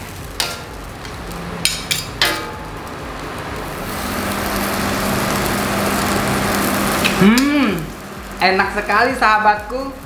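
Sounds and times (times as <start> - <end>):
food sizzling in wok: 0.0 - 10.0.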